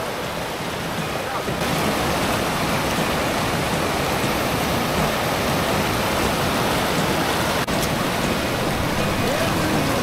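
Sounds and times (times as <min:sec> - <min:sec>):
stream rushing: 0:00.0 - 0:10.0.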